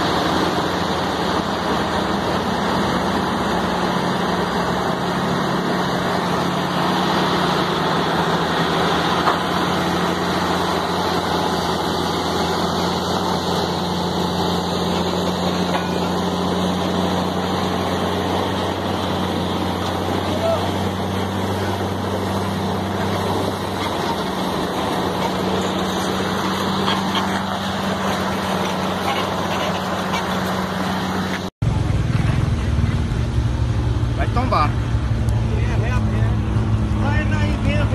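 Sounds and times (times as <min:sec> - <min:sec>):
diesel engine under heavy load: 0:00.0 - 0:37.9.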